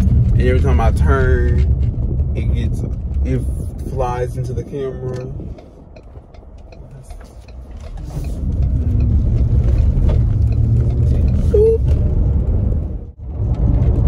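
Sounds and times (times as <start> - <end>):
car engine rumble: 0.0 - 14.0
road noise inside car: 0.0 - 14.0.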